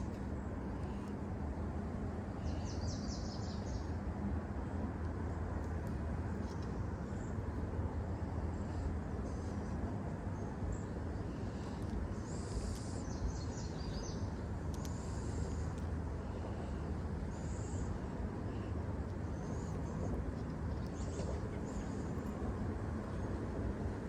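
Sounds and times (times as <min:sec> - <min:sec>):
low rumble of wind or traffic: 0:00.0 - 0:24.0.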